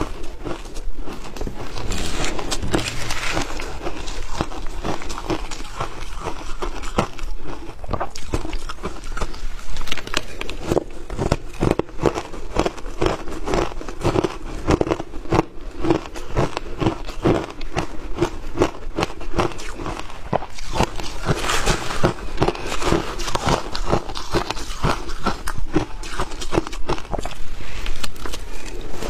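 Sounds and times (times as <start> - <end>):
chewing crunchy ice: 0.0 - 29.0.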